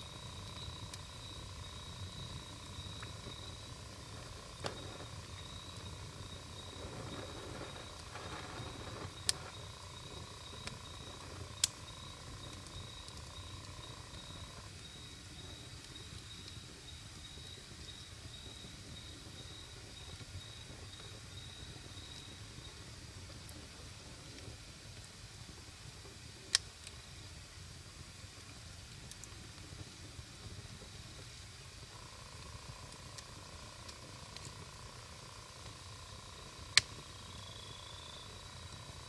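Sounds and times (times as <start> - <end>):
fire crackling pops: 0.0 - 39.0
wood fire rumbling: 0.0 - 39.0.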